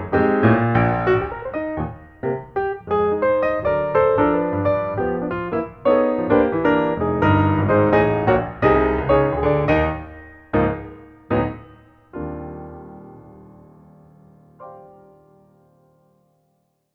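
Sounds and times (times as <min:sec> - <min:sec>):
piano chords: 0:00.0 - 0:16.8.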